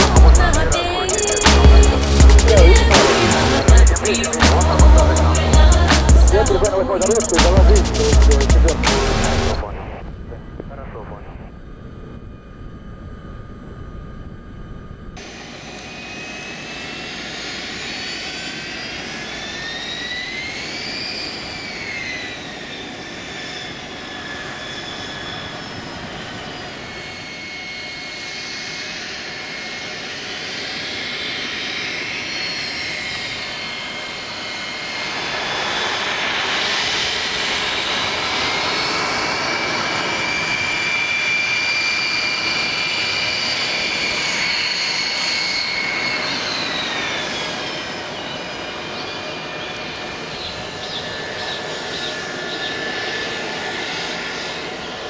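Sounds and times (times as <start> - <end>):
jet engine rushing noise: 0.0 - 11.5, 15.2 - 55.0
jet engine turbine whine: 0.0 - 55.0.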